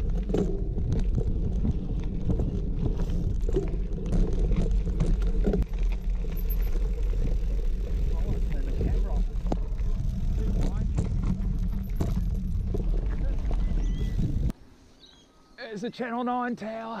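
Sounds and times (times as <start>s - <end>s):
bike knocks and rattles: 0.0s - 14.5s
wind rumbling on microphone: 0.0s - 14.6s
bike tyres on dirt: 0.0s - 15.3s.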